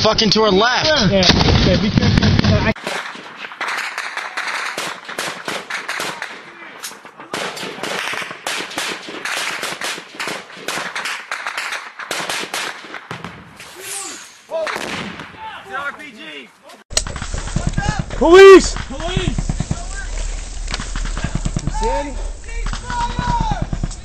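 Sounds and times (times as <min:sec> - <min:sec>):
small-arms gunfire: 0:01.3 - 0:13.4, 0:14.7 - 0:15.4, 0:16.9 - 0:24.0.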